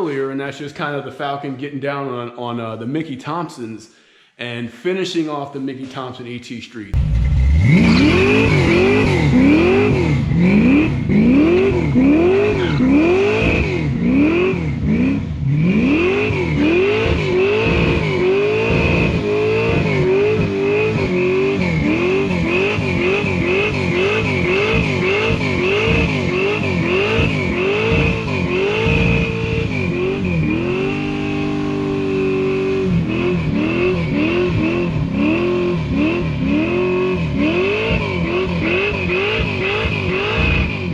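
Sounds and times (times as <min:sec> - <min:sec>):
car engine revving: 0:07.0 - 0:40.9.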